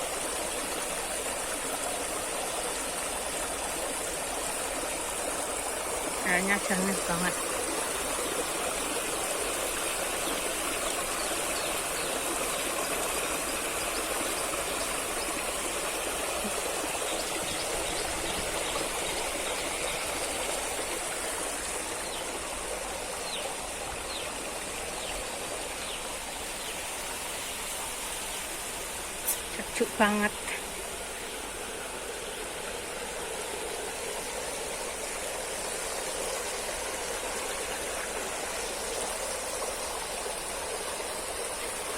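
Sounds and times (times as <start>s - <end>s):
stream water running: 0.0s - 41.9s.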